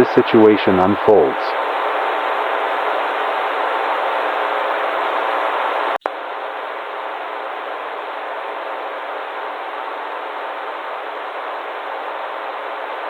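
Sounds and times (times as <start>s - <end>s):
static hiss: 0.0s - 13.0s.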